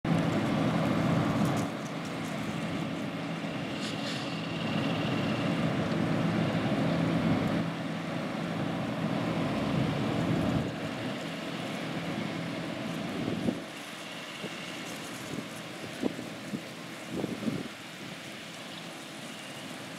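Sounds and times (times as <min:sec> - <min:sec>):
distant diesel engines droning: 0:00.1 - 0:19.9.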